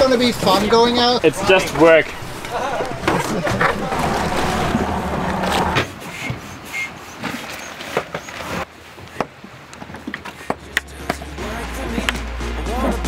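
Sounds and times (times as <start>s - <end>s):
water and wind noise: 0.0s - 13.0s.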